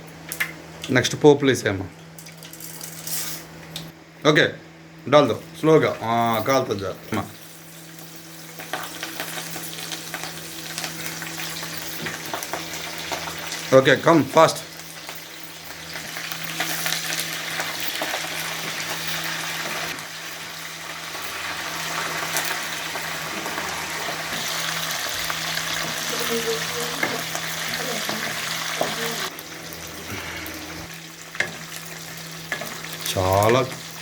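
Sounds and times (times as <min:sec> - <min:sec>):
spices sizzling in hot oil: 0:05.9 - 0:34.0.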